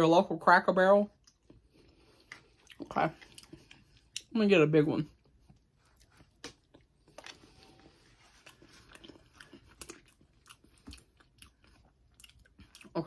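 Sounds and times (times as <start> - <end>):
person chewing crunchy food: 1.2 - 4.3, 5.2 - 13.0.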